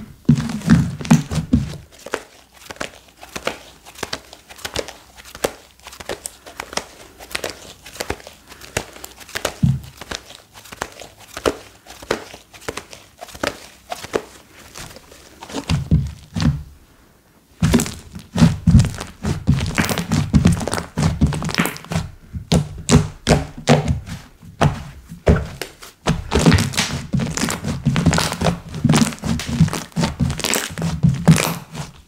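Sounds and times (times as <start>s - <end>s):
slime squishing by hand: 0.0s - 16.9s, 17.6s - 32.0s.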